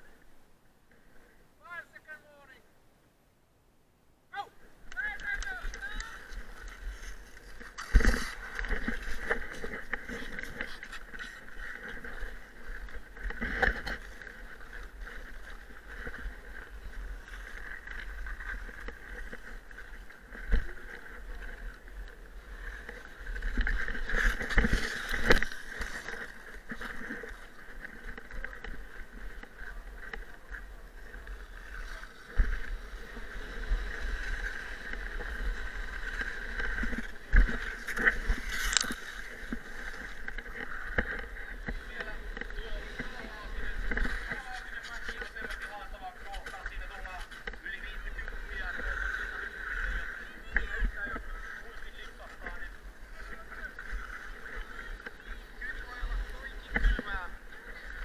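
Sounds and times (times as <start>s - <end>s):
skate blades scraping on ice: 5.0s - 58.0s.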